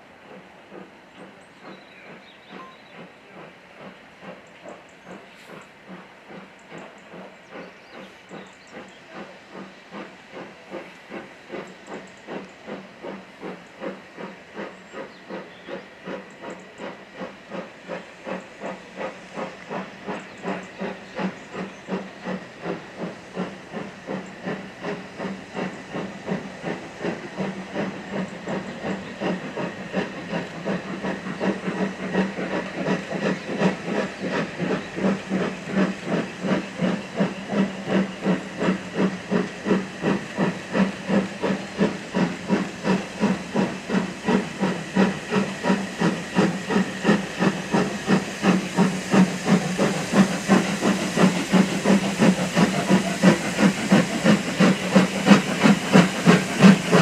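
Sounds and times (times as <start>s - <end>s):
steam locomotive exhaust beating: 0.0s - 57.0s.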